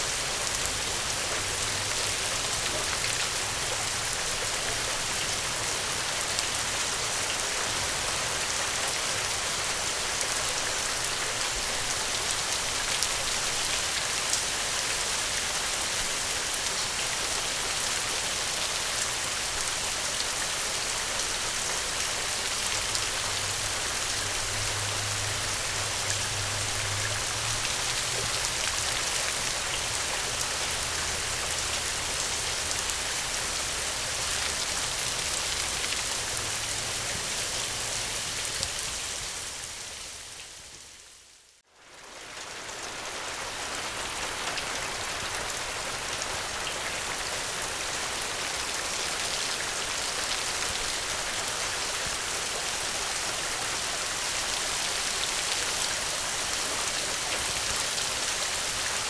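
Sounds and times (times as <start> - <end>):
rain hiss: 0.0 - 59.0.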